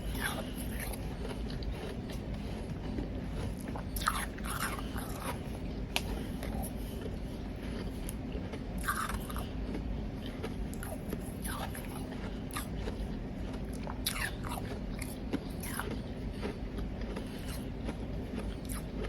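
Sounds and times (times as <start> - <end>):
chewing crunchy ice: 0.0 - 19.0
steady low hum: 0.0 - 19.0.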